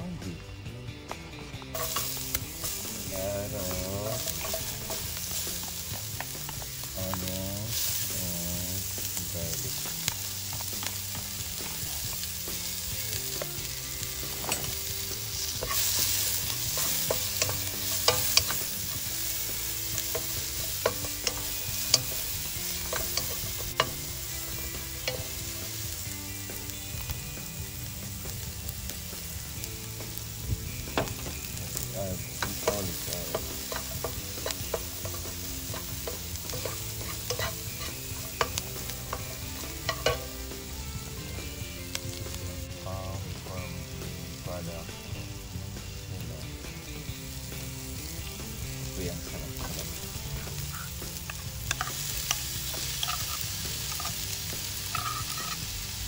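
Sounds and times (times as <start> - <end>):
onions sizzling in hot oil: 1.5 - 56.0.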